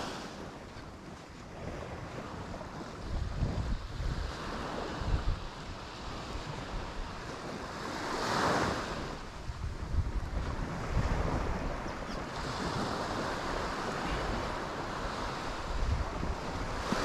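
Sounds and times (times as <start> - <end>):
small waves breaking on beach: 0.0 - 17.0
wind buffeting microphone: 0.0 - 17.0.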